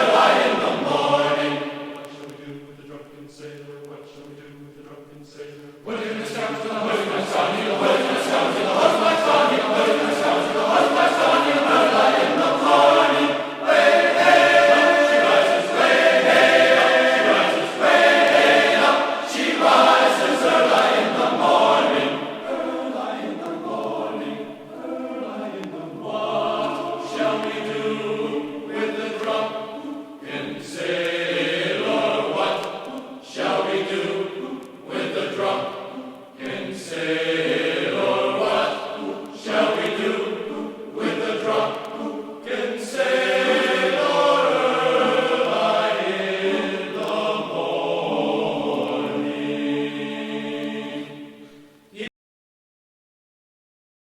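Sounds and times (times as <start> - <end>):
choir singing a sea shanty: 0.0 - 52.1.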